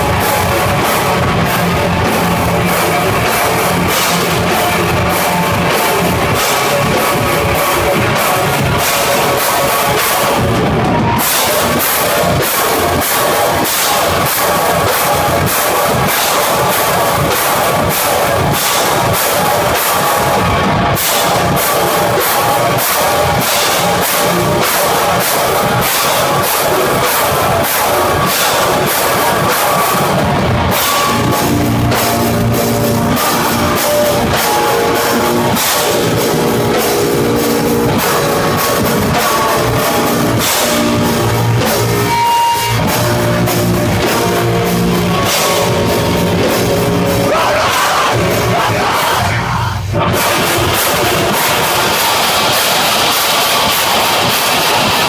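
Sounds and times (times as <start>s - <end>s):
distorted guitars: 0.0s - 55.0s
rapid dense drumming: 0.0s - 55.0s.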